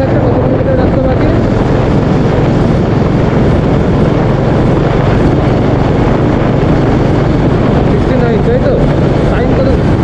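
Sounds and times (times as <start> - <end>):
motorcycle engine cruising: 0.0 - 10.0
wind rush over microphone: 0.0 - 10.0.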